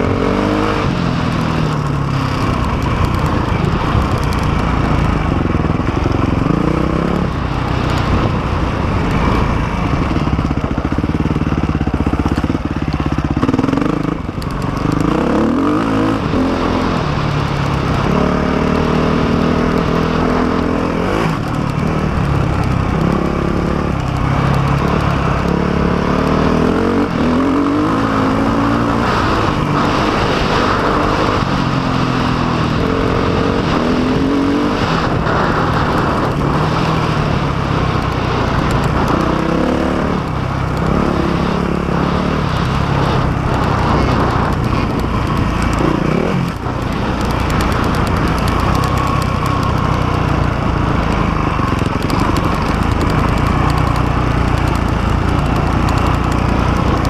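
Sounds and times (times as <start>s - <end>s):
dirt bike engine revving: 0.0s - 57.0s
wind rush and riding noise: 0.0s - 57.0s.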